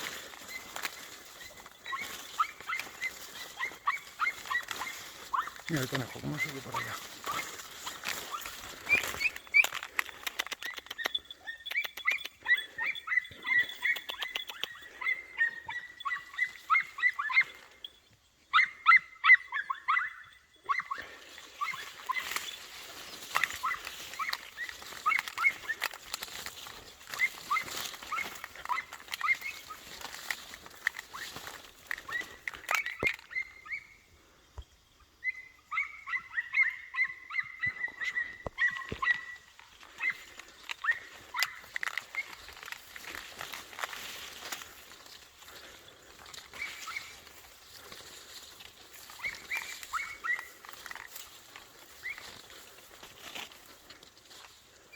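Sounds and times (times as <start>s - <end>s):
puppies yelping: 0.0s - 17.9s, 18.5s - 33.9s, 35.2s - 54.9s.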